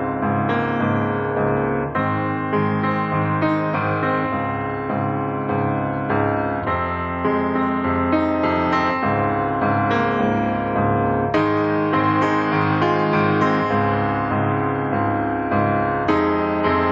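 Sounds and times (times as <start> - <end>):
piano chords: 0.0 - 16.9.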